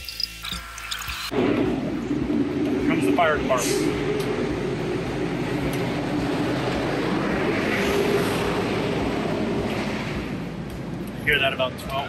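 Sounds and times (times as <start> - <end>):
road noise: 0.7 - 12.0
fire truck engine passing: 1.3 - 12.0.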